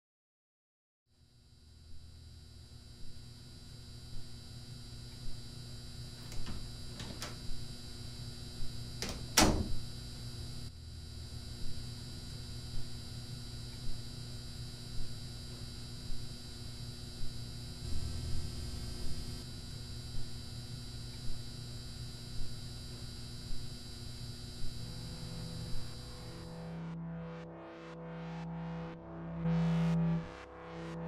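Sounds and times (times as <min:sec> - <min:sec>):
electrical room hum: 0:01.1 - 0:31.0
soft regular pulse: 0:01.7 - 0:09.0, 0:09.7 - 0:27.3.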